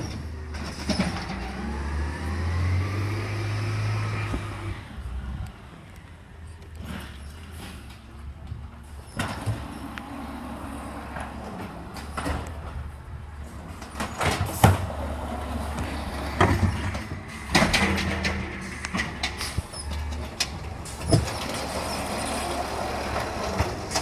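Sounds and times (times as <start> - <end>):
cart clanking and banging: 0.0 - 5.4, 6.5 - 24.0
garbage truck running: 0.0 - 24.0.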